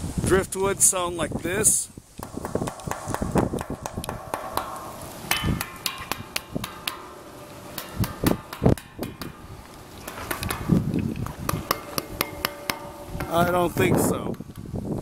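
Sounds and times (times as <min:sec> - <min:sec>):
hand knocking metal sculpture: 0:02.2 - 0:15.0.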